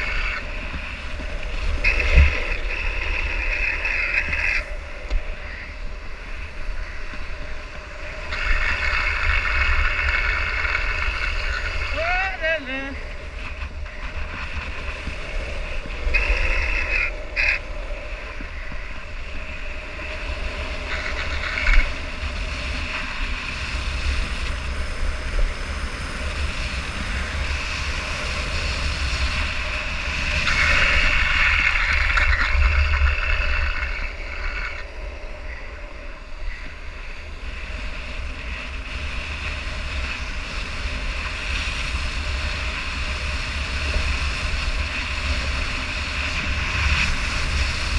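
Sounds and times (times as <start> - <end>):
skate wheels rolling on asphalt: 0.0 - 47.9
wind buffeting microphone: 0.0 - 47.9.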